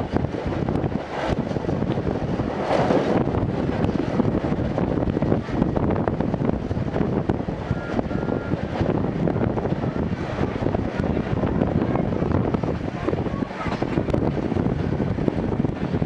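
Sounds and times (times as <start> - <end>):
train coach rumbling on track: 0.0 - 16.0
wind noise on microphone: 0.0 - 16.0.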